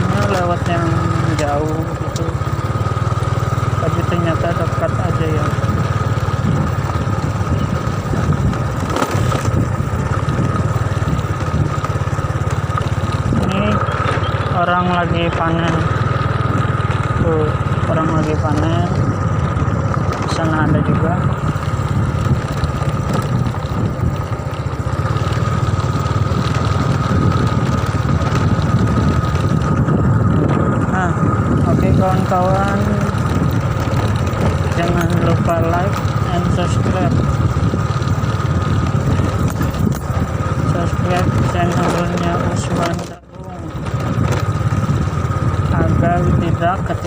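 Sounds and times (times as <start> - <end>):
small motorcycle engine running: 0.0 - 47.0.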